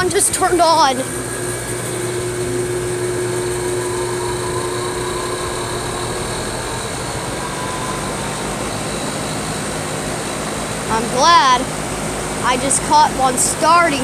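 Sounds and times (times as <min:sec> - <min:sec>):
air conditioner hum and fan: 0:00.0 - 0:14.0
faint rising whine: 0:00.0 - 0:14.0.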